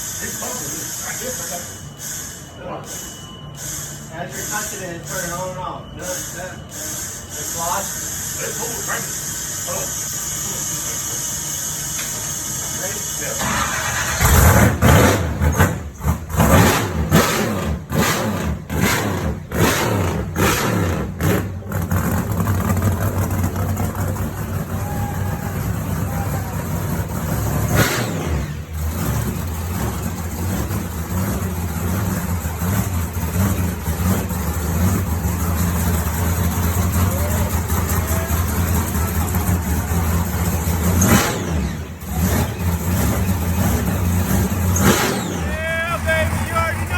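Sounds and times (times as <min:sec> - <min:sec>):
truck engine cranking and running: 0:00.0 - 0:46.9
engine rev: 0:06.2 - 0:46.9.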